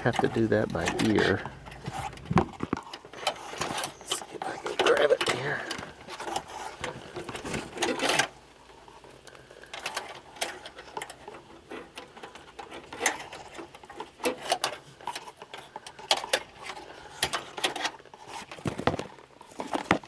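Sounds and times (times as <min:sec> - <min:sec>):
wire hanger scraping and clicking on metal: 0:00.0 - 0:19.9.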